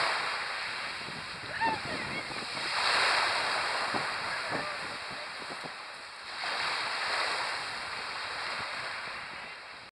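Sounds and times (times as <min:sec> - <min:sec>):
sea waves washing on beach: 0:00.0 - 0:09.9.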